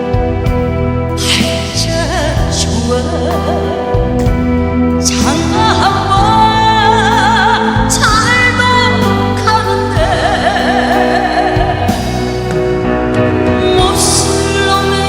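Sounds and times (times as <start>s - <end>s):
steady bass accompaniment: 0.0s - 15.0s
sung melody with wide vibrato: 0.0s - 15.0s.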